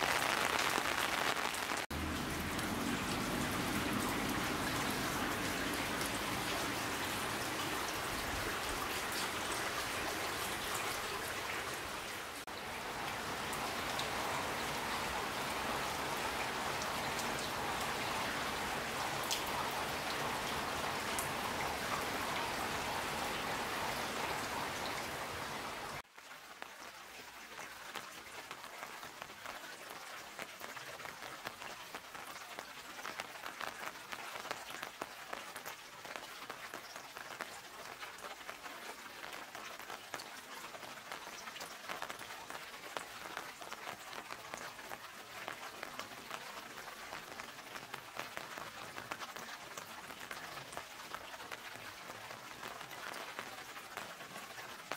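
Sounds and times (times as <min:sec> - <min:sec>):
steady rain on roofs: 0:00.0 - 0:54.9.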